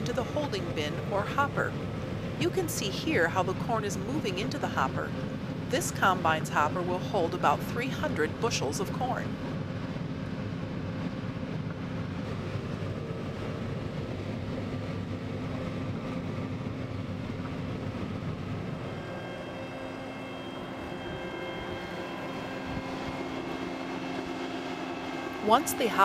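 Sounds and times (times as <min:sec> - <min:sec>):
combine machinery rumble: 0:00.0 - 0:26.0
steady whining tones: 0:00.0 - 0:26.0.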